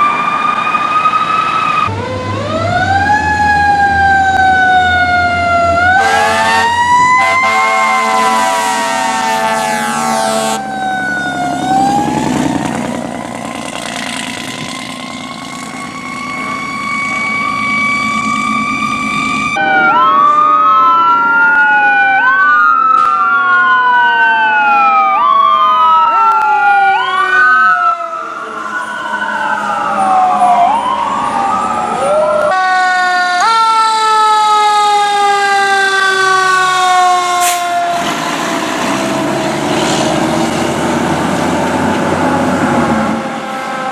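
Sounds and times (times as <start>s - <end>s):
fire truck siren wailing: 0.0s - 43.9s.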